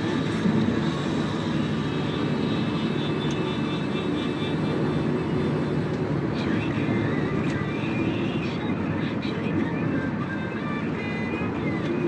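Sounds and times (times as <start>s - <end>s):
car engine and tyre road noise: 0.0s - 12.0s.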